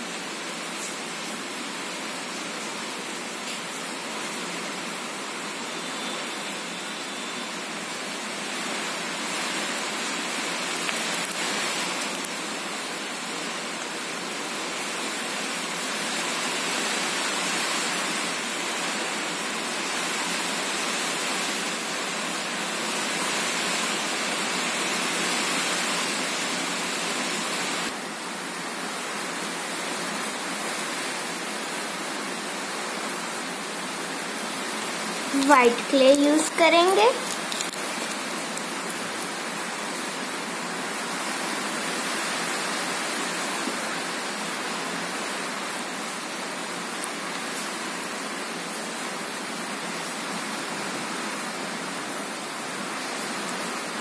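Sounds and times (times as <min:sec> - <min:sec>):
steady hissing background noise: 0:00.0 - 0:54.0.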